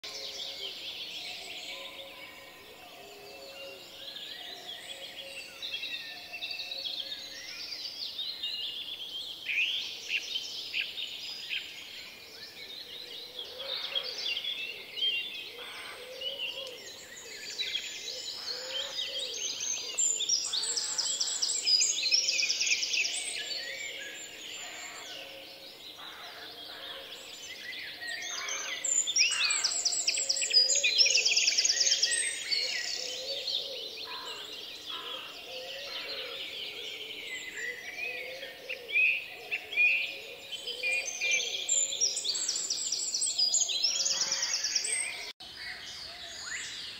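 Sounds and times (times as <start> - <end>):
songbirds singing and chirping: 0.0 - 46.9.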